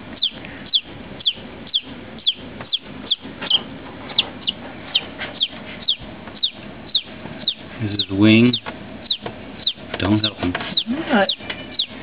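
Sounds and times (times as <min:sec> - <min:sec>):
chick peeping: 0:00.0 - 0:12.0.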